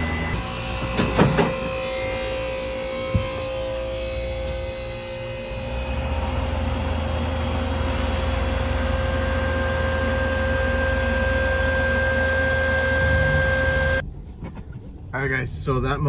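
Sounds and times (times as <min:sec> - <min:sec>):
higher whine: 0:00.0 - 0:14.1
refrigeration unit humming: 0:00.0 - 0:14.1
constant whine: 0:00.0 - 0:16.0.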